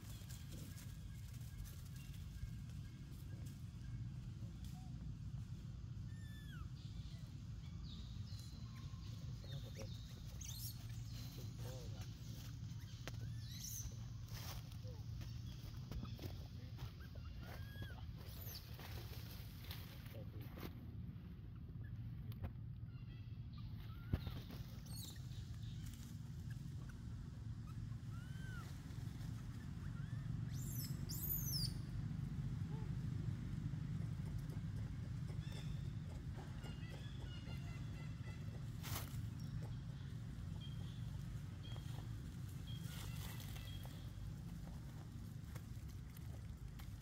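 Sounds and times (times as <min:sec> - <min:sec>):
low outdoor rumble: 0:00.0 - 0:47.0.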